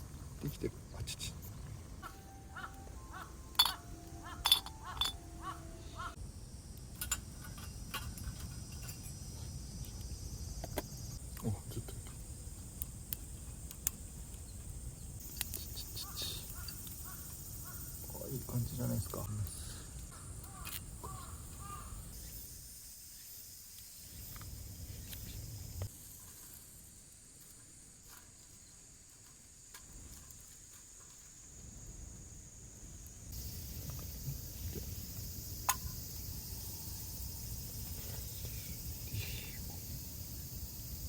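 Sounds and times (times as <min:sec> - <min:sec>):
cicadas chorus: 0:00.1 - 0:41.0.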